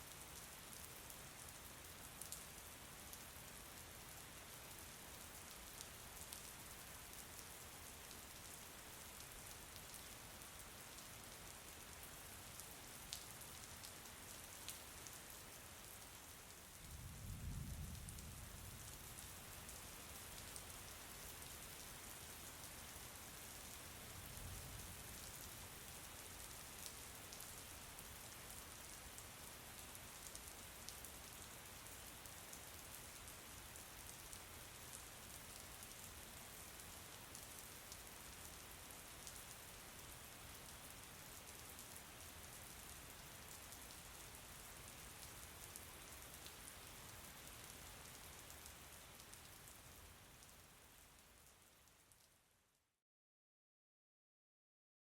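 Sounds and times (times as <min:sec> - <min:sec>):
soft steady rain: 0:00.0 - 0:53.0.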